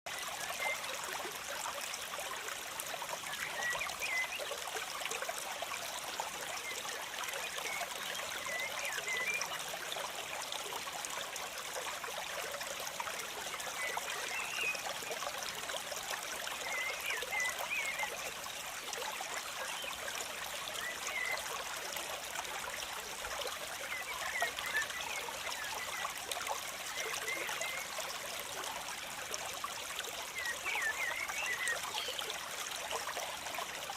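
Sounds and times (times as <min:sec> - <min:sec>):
water trickling and splashing: 0:00.1 - 0:33.9.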